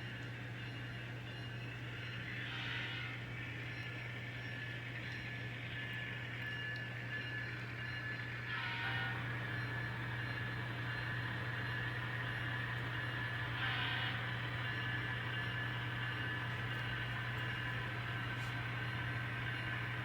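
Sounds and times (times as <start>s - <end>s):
constant low hum: 0.0s - 20.0s
model train motor whine: 0.1s - 20.0s.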